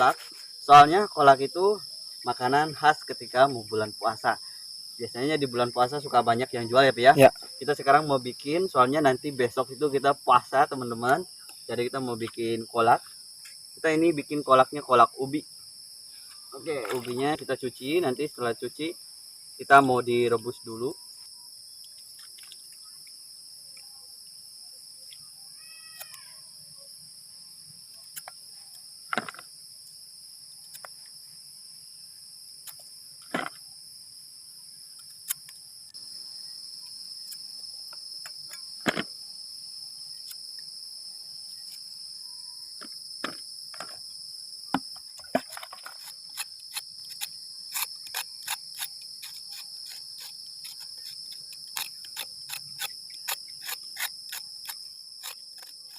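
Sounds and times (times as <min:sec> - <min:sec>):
crickets and insects chirping: 0:00.0 - 0:55.9.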